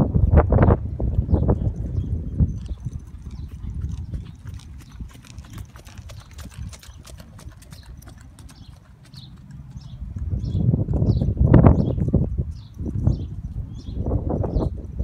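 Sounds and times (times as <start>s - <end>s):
horse hoofbeats on sand: 1.2s - 15.0s.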